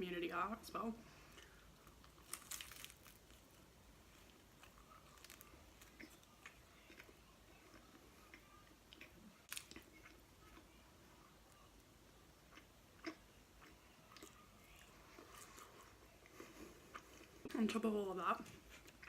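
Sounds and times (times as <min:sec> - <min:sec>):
chewing with crunches: 0:01.3 - 0:03.6, 0:04.2 - 0:17.5, 0:18.4 - 0:19.0.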